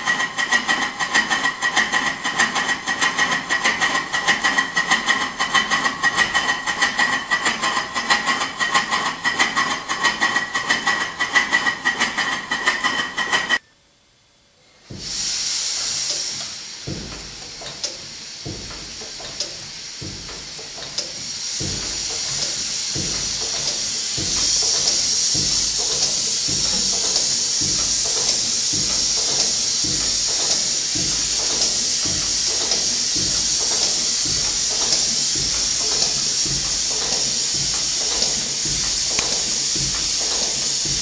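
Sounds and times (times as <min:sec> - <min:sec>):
steady hiss of steam: 0:00.0 - 0:11.6, 0:14.6 - 0:41.0
steam engine running fast: 0:00.0 - 0:13.6, 0:18.4 - 0:41.0.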